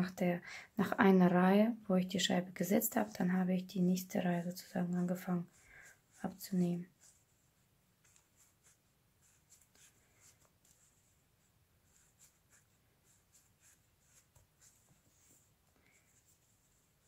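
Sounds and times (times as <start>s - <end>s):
crochet hook rustling yarn: 2.3s - 17.0s.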